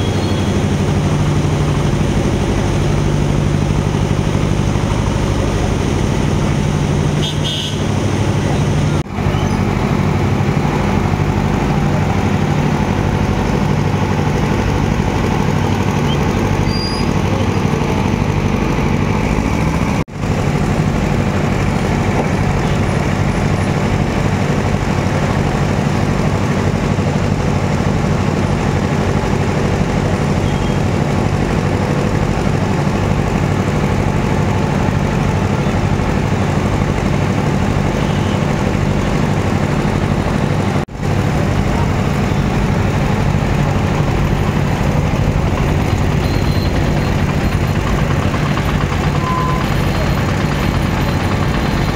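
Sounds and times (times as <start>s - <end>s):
vehicle engine idling: 0.0s - 51.9s.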